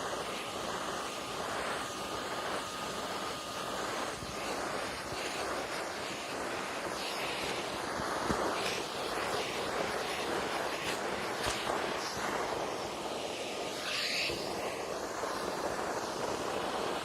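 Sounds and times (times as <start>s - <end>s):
faint thin whine: 0.0s - 17.0s
shop vac rushing air: 0.0s - 17.0s.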